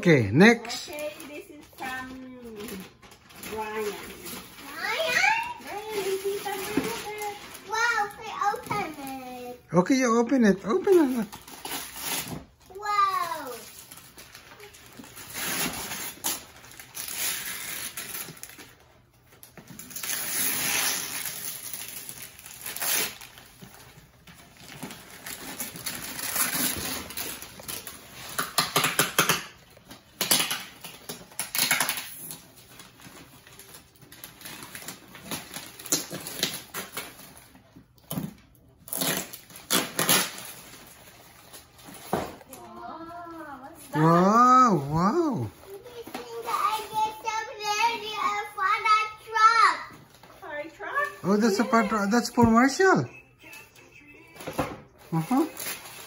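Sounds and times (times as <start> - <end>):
wrapping paper tearing and crinkling: 0.4 - 9.7, 10.7 - 52.7, 55.0 - 56.0.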